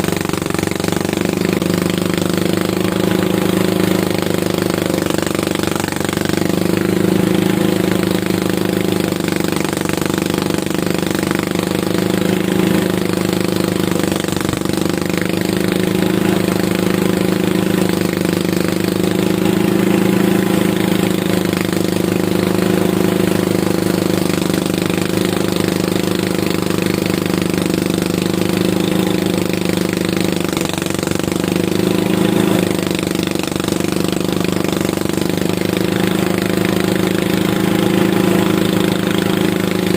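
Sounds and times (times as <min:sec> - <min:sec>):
harvester engine chugging: 0:00.0 - 0:39.9.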